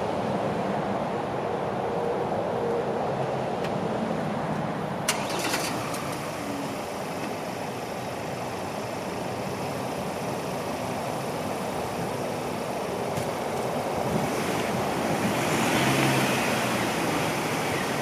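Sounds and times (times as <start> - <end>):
truck engine rumble: 0.0 - 18.0.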